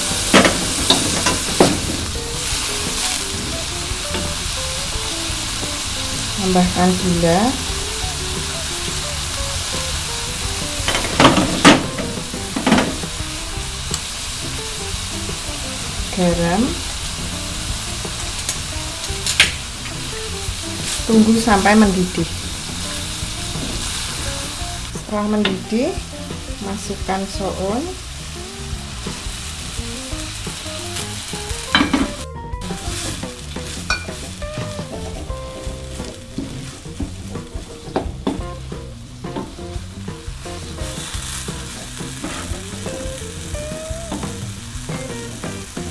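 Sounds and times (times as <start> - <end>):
background music: 0.0 - 45.9
stir-fry sizzling in wok: 0.0 - 45.9
utensil striking wok: 0.0 - 45.9.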